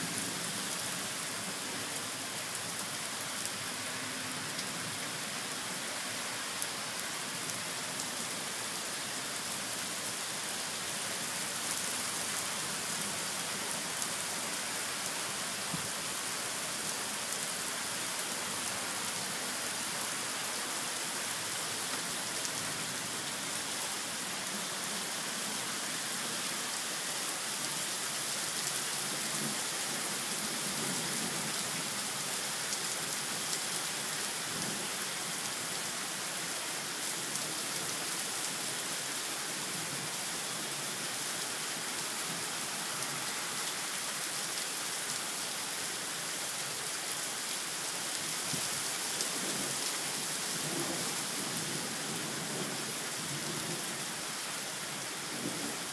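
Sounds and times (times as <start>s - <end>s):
heavy rain on pavement: 0.0s - 55.9s.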